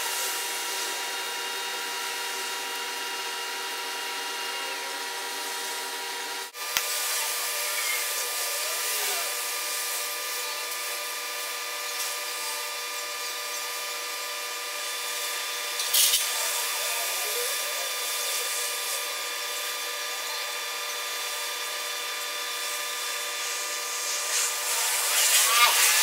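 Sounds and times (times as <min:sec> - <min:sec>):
welding torch flame hissing: 0:00.0 - 0:26.0.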